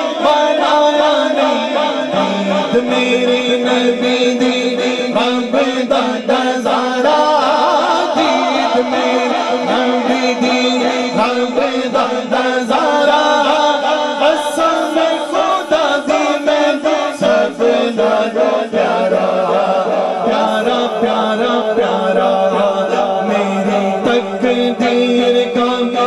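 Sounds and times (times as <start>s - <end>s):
low held vocal drone: 0.0s - 26.0s
man singing melodic lines: 0.0s - 26.0s.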